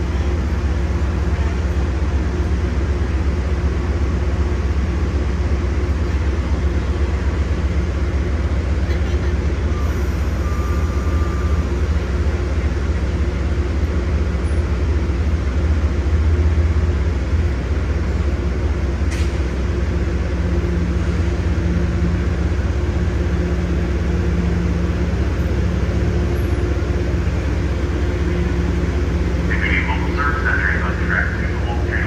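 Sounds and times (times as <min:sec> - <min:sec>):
constant hum: 0:00.0 - 0:32.0
train low rumble: 0:00.0 - 0:32.0.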